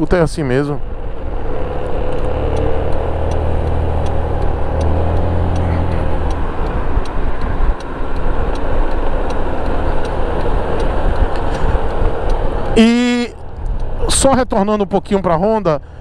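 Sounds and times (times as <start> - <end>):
wind and road rush: 0.0 - 16.0
faint even ticking: 1.2 - 16.0.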